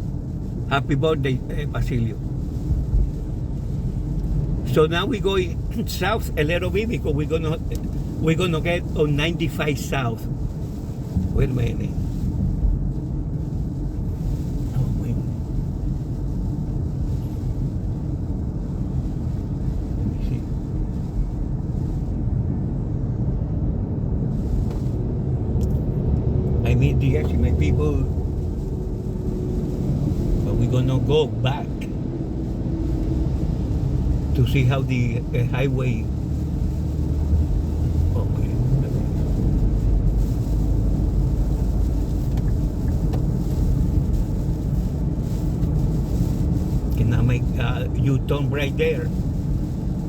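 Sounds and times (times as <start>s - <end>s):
road and engine rumble inside car: 0.0s - 50.0s.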